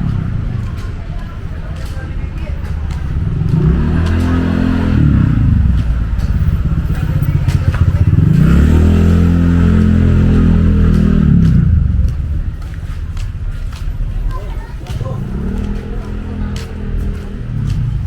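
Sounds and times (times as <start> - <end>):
small motorcycle engines passing: 0.0 - 18.0.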